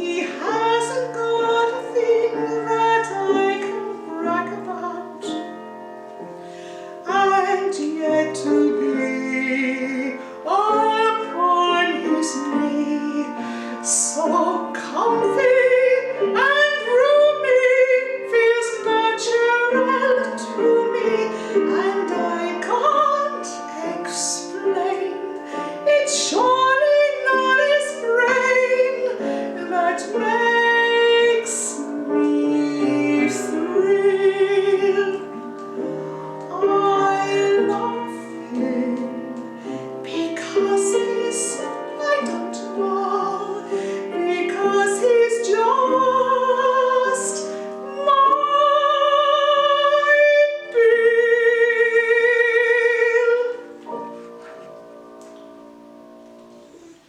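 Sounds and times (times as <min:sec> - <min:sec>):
woman singing with vibrato: 0:00.0 - 0:05.6, 0:07.0 - 0:54.1
piano accompaniment: 0:00.0 - 0:57.0.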